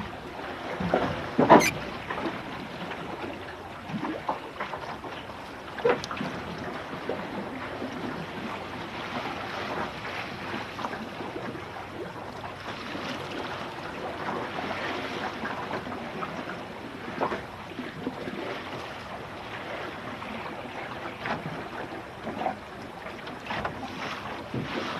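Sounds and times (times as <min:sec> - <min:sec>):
water slapping against hull: 0:00.0 - 0:24.9.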